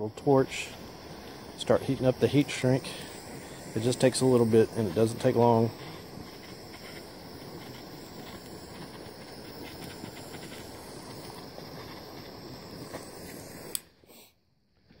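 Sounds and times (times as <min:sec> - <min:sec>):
torch hissing flame: 0:00.0 - 0:15.0.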